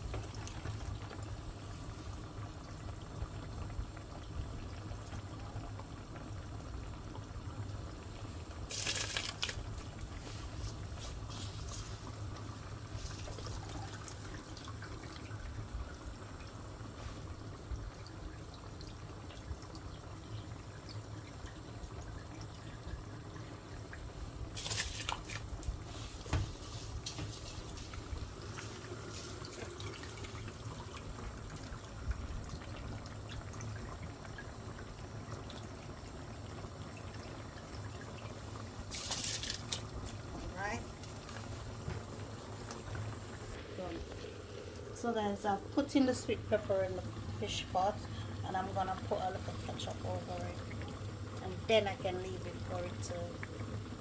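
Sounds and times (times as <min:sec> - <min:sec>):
liquid pouring in a pot: 0:00.0 - 0:54.0.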